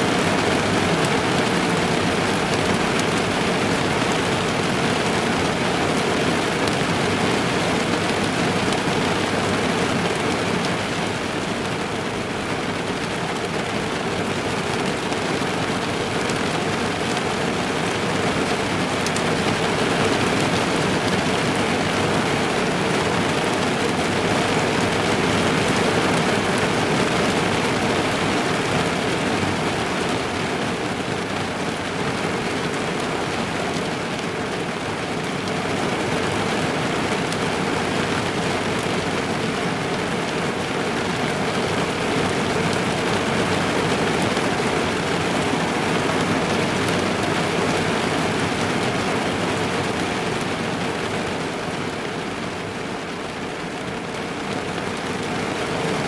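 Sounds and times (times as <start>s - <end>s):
rain on car roof: 0.0s - 56.0s.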